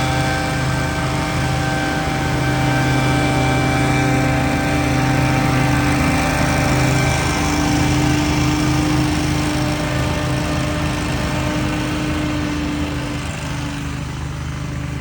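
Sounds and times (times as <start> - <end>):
small gas engine running: 0.0 - 15.0.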